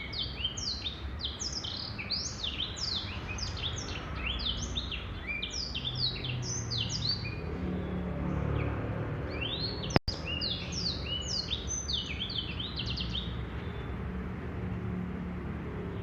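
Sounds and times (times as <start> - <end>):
canary singing whistles and trills: 0.0 - 13.9.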